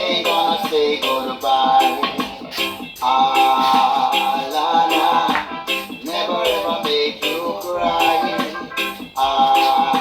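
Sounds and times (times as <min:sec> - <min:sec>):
reggae song: 0:00.0 - 0:10.0.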